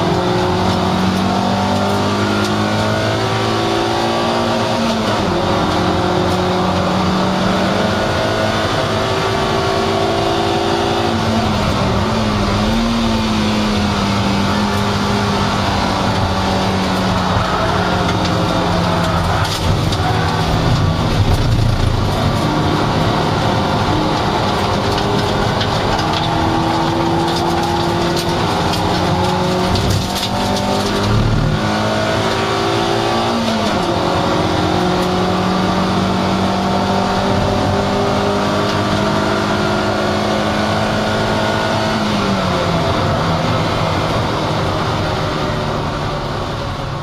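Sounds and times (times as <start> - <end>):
car engine running hard: 0.0 - 47.0
wind and road noise: 0.0 - 47.0.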